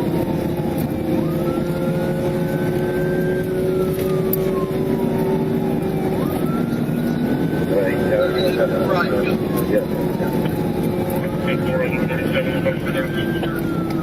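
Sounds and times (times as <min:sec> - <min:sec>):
car engine and road noise: 0:00.0 - 0:14.0
police siren wailing: 0:00.0 - 0:14.0.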